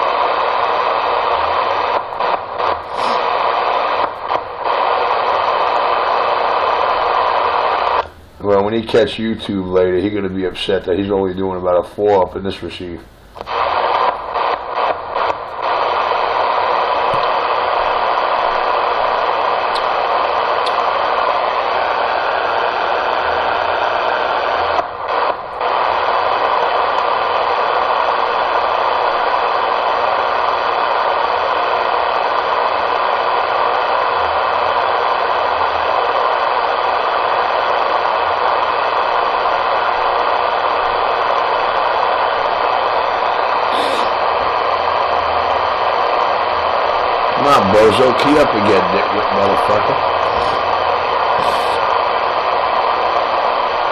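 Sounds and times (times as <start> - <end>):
radio static hiss: 0.0 - 53.9.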